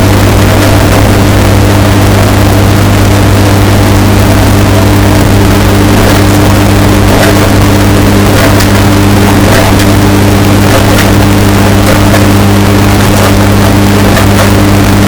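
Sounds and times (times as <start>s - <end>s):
distorted washing machine hum: 0.0s - 15.0s.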